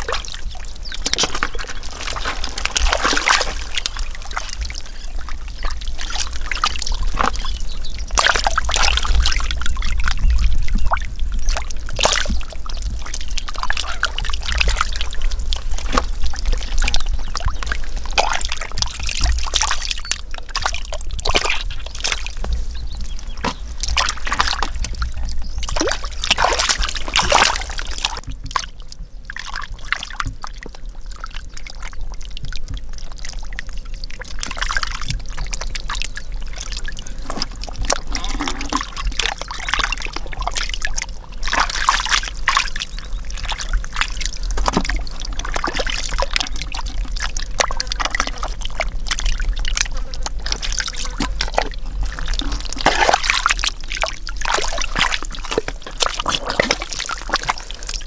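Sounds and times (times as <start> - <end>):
hands splashing in muddy water: 0.0 - 10.1, 10.8 - 28.7, 34.4 - 58.0.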